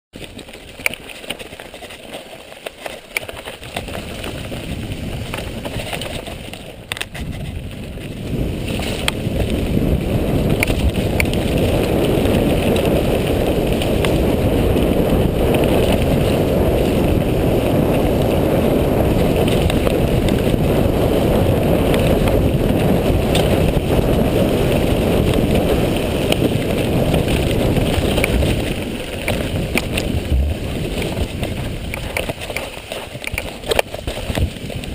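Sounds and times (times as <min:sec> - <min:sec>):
bike knocks and rattles: 0:00.2 - 0:34.9
tyres rumbling on dirt: 0:00.2 - 0:34.9
wind rushing over microphone: 0:03.3 - 0:34.9.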